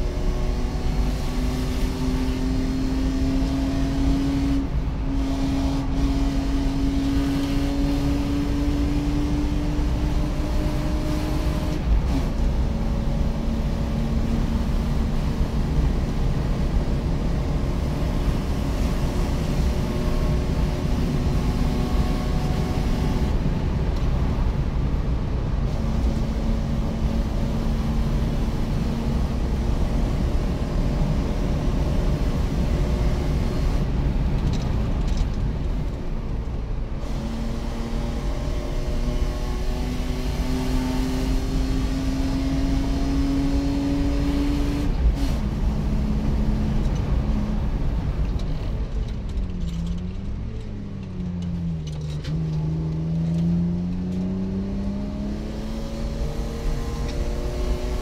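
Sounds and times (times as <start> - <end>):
car engine running hard: 0.0 - 58.0
road and wind noise: 0.0 - 58.0.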